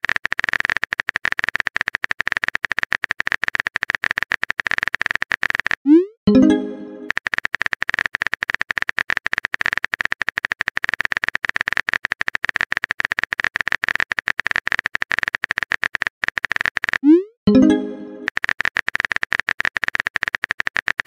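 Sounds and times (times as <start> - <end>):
rapid keyboard clicks: 0.0 - 5.9, 6.7 - 17.1, 18.0 - 21.0.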